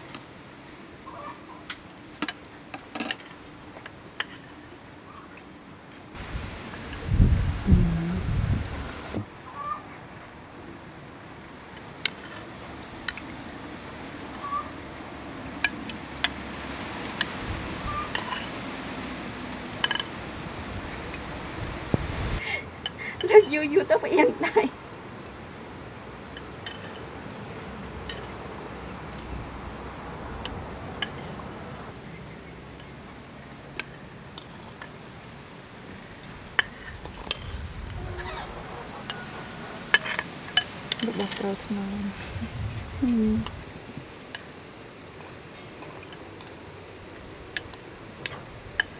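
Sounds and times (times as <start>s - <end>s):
steady background hiss: 0.0s - 48.9s.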